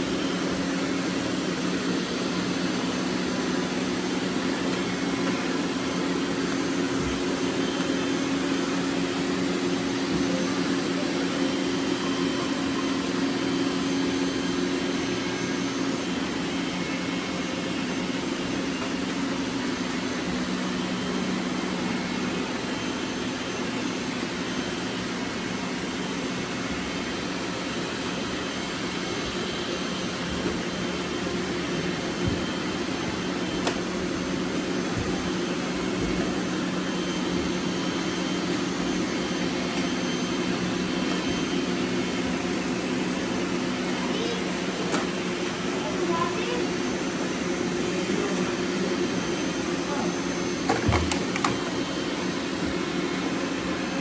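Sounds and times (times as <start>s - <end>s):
robot vacuums whirring: 0.0s - 54.0s.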